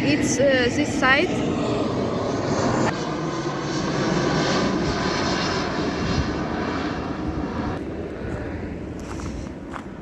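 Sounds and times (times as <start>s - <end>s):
airplane engine rumble: 0.0s - 10.0s.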